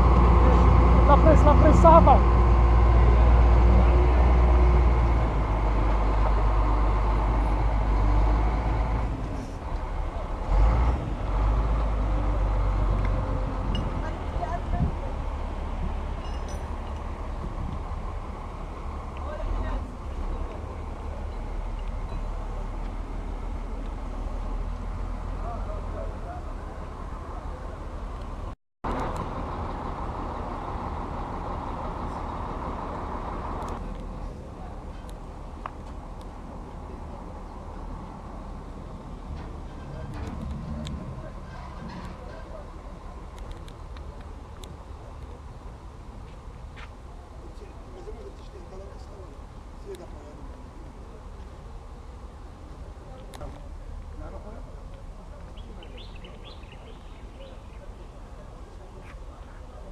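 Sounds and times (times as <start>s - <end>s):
heavy diesel engine rumbling: 0.0s - 59.9s.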